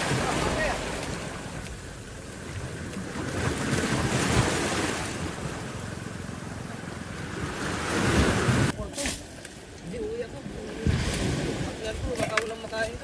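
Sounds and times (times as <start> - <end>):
moving water: 0.0 - 13.0
wind rumbling on microphone: 0.0 - 13.0.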